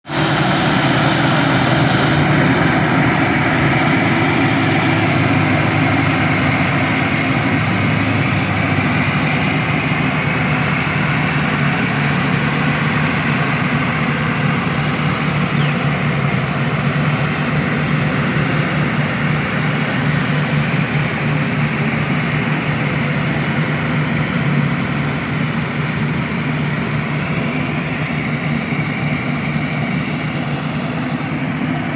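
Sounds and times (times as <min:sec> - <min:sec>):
crawler tractor engine drone: 0:00.0 - 0:31.9
rotavator rushing clatter: 0:00.0 - 0:31.9.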